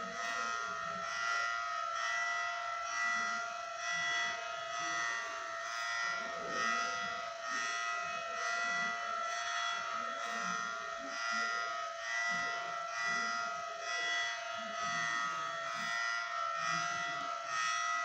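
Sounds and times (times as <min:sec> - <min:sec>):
rotating warning siren: 0:00.0 - 0:18.0.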